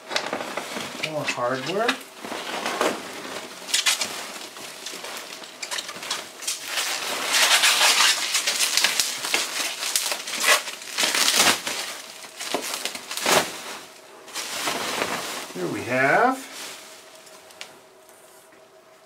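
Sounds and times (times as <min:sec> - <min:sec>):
bubble wrap crinkling: 0:00.0 - 0:18.3.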